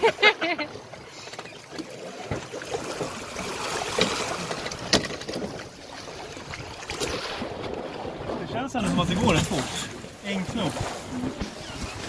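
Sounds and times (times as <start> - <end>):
water sloshing against hull: 0.0 - 12.0.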